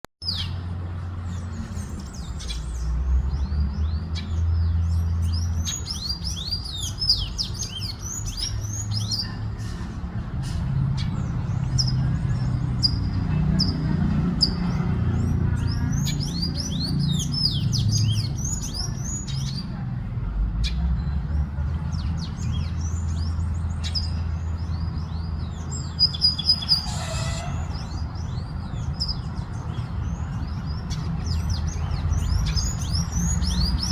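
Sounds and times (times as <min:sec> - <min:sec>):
birds chirping and warbling: 0:00.2 - 0:33.9.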